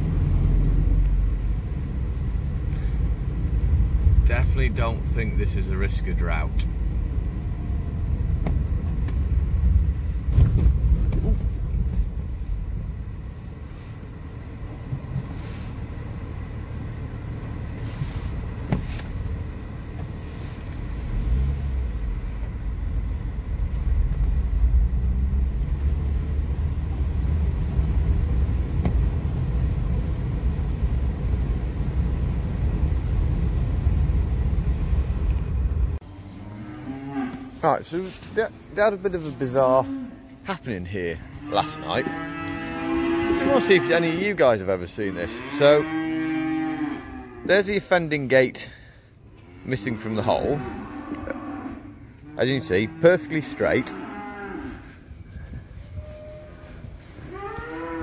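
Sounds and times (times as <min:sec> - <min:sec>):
car engine and tyres rumbling: 0:00.0 - 0:54.0, 0:54.6 - 0:58.0.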